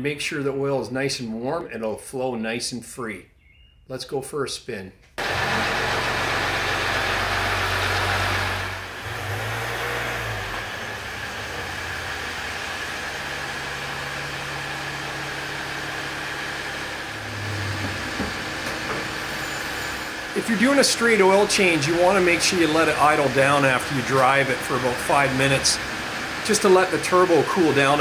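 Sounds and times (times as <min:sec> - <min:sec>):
diesel truck engine running: 0:05.2 - 0:28.0.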